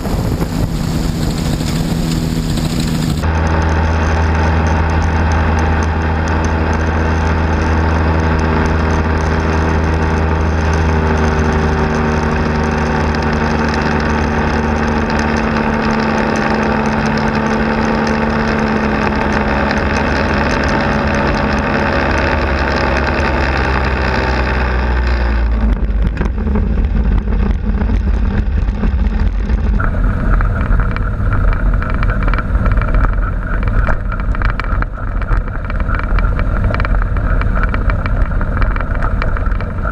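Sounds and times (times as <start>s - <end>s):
light aircraft engine running: 0.0s - 39.9s
low rumble: 0.0s - 39.9s
wind buffeting microphone: 0.0s - 39.9s.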